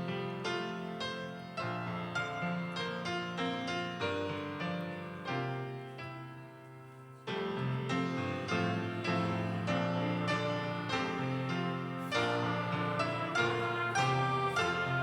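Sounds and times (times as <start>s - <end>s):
piano playing slow hymn chords: 0.0s - 15.0s.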